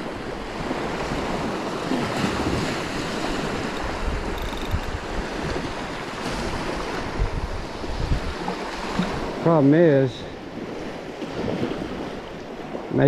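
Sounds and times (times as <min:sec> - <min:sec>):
wind buffeting microphone: 0:00.0 - 0:09.5, 0:10.3 - 0:13.0
small waves breaking on beach: 0:00.0 - 0:13.0.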